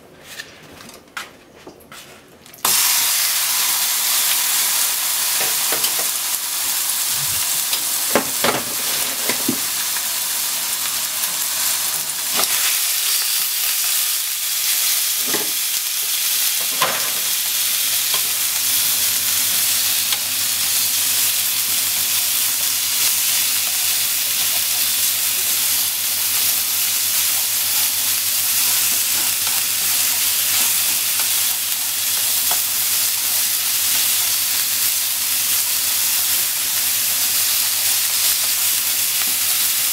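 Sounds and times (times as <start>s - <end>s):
meat sizzling in a frying pan: 2.6s - 39.9s.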